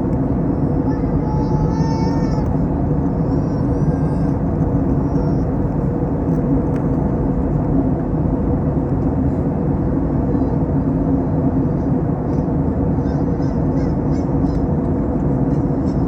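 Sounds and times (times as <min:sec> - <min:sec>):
engines rumbling: 0:00.0 - 0:16.0
low steady hum: 0:00.0 - 0:16.0.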